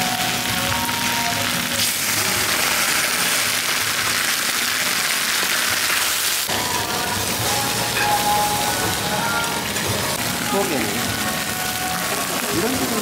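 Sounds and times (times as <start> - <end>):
sauce sizzling in hot pot: 0.0 - 13.0.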